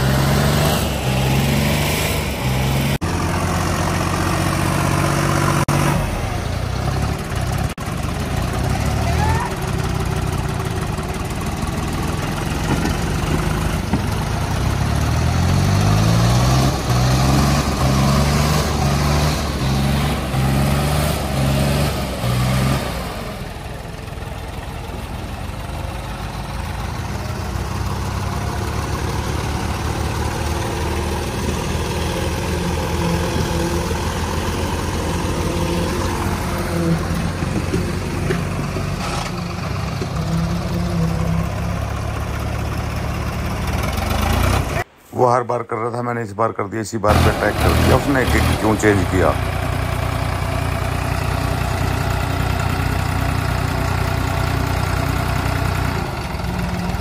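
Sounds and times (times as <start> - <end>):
tractor engines labouring: 0.0 - 57.0.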